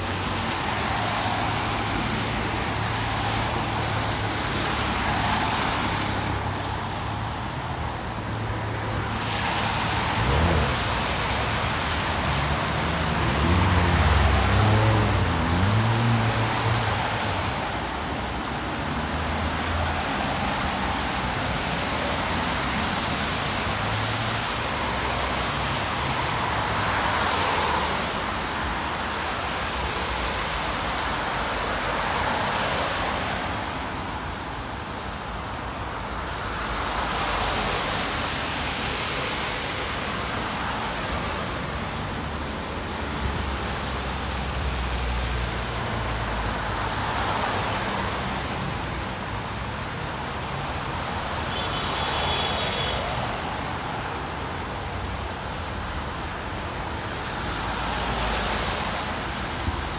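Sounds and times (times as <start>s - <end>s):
tyres hissing on road: 0.0s - 59.9s.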